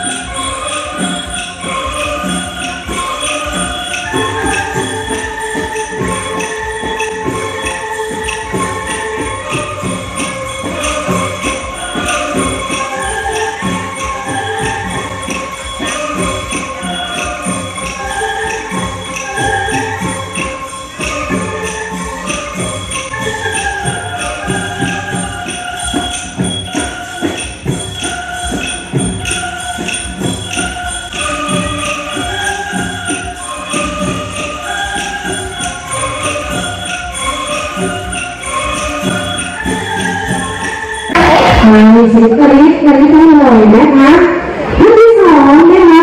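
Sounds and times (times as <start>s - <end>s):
rattling bamboo tubes melody: 0.0s - 41.2s.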